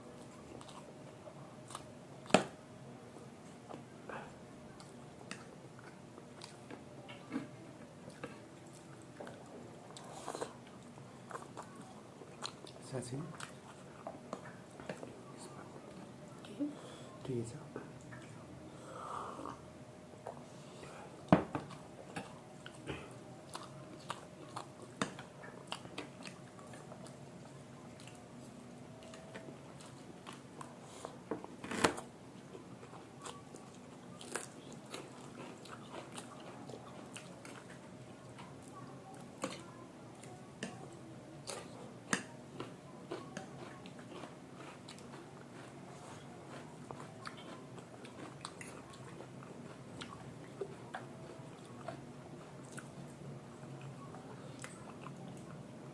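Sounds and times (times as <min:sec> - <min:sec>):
chewing and crunching: 0:00.1 - 0:03.9, 0:04.7 - 0:16.5, 0:21.6 - 0:31.2, 0:32.4 - 0:55.9.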